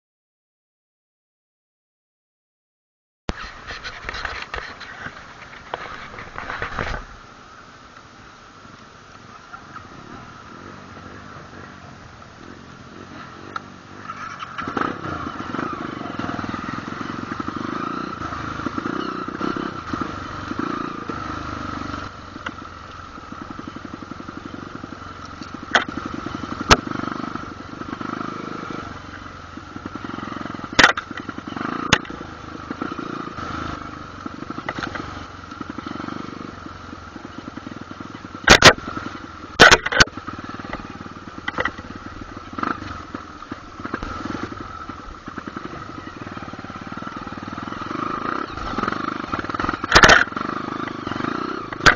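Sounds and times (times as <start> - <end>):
motorcycle engine running: 8.5 - 51.9.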